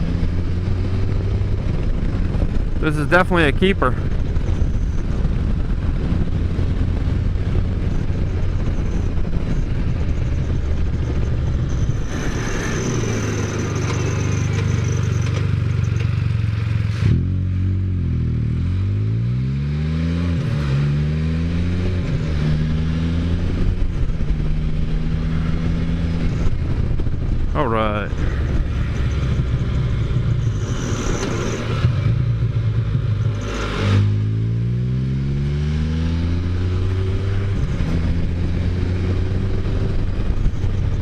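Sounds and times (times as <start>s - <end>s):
wind noise: 0.0s - 16.0s, 20.4s - 41.0s
motor vehicle engine running: 0.0s - 19.4s, 20.6s - 41.0s.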